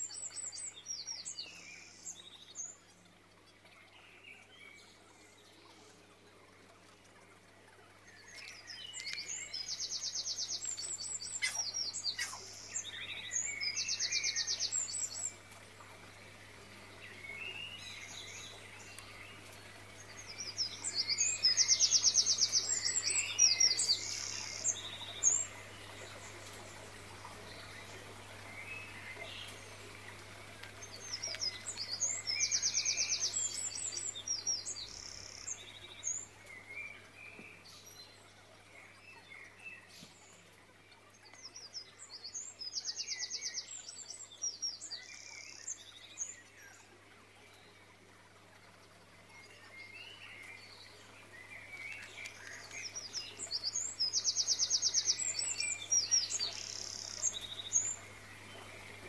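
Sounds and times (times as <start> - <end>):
songbird chirps and trill: 0.0 - 59.0.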